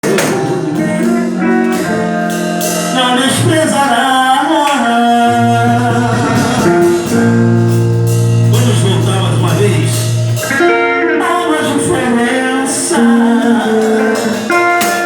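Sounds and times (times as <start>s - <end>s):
person singing gospel song: 0.0s - 7.7s, 8.4s - 15.0s
guitar accompaniment: 0.0s - 15.0s.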